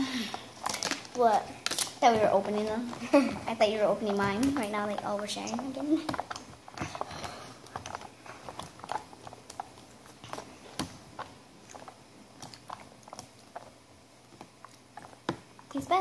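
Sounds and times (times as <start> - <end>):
plastic tubs clicking and crinkling: 0.0 - 13.7.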